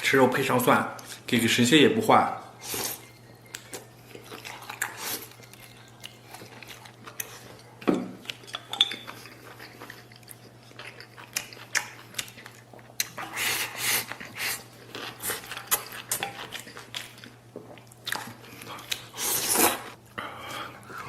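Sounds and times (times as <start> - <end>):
person chewing: 2.6 - 21.0.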